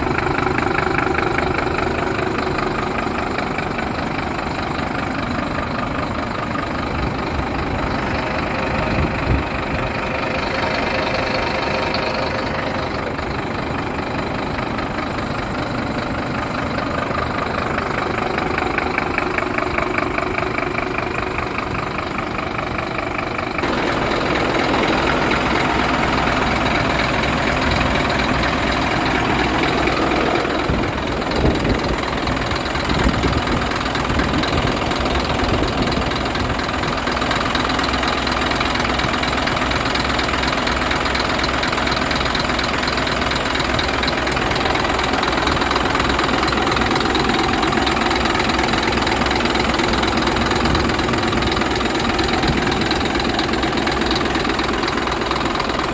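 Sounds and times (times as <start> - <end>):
truck diesel engine idling: 0.0 - 55.9.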